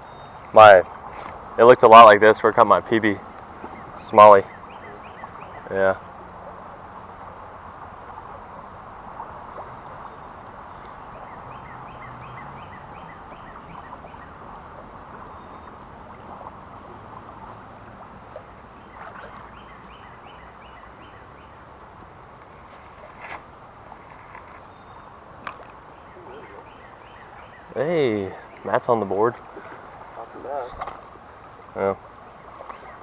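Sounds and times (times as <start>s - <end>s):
creek water flowing: 0.0s - 33.0s.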